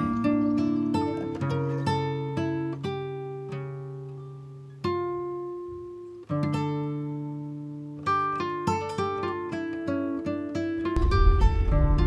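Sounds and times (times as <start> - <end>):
plucked acoustic guitar: 0.0 - 12.0.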